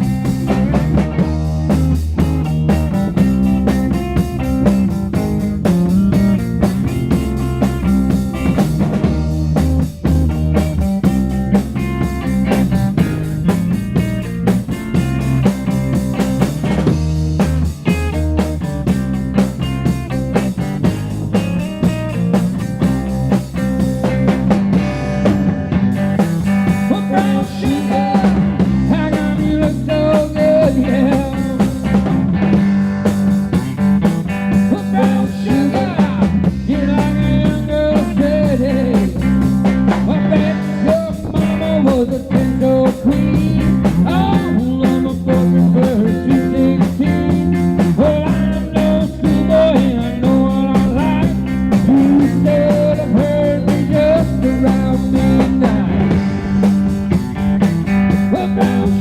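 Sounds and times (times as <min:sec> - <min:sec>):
bending guitar lead line: 0:00.0 - 0:59.0
live rock band playing: 0:00.0 - 0:59.0.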